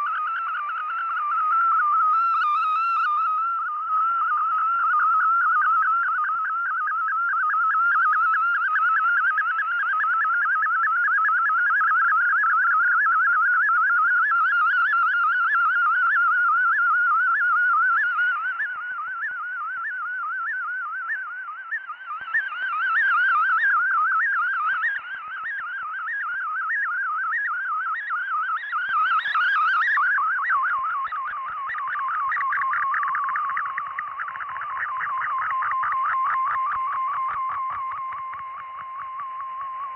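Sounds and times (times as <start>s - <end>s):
warbling radio data tone: 0.0s - 39.9s.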